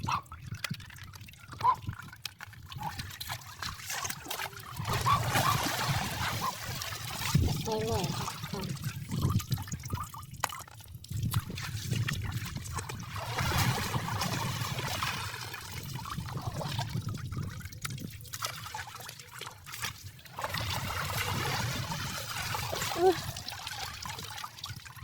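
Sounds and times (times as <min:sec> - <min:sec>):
shallow water trickling: 0:00.1 - 0:25.0
small splashes: 0:00.6 - 0:24.8.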